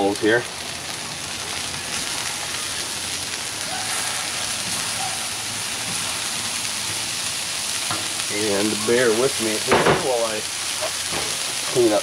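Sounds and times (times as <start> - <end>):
meatballs sizzling on griddle: 0.0 - 12.0.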